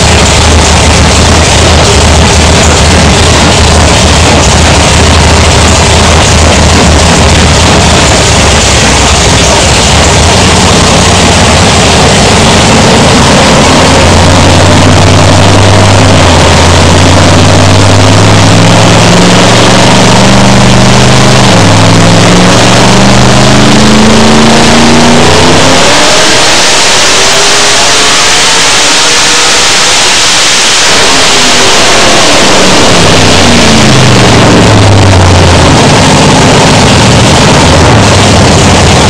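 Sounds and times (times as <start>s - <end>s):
loud engine revving: 0.0s - 39.0s.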